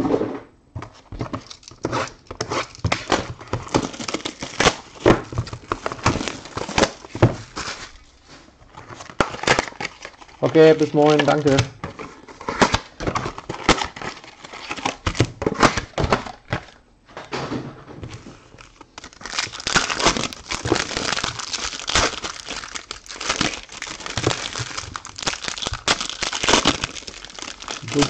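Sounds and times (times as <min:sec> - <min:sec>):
card wrappers crinkling: 0:01.2 - 0:08.1, 0:08.7 - 0:16.7, 0:18.2 - 0:28.0.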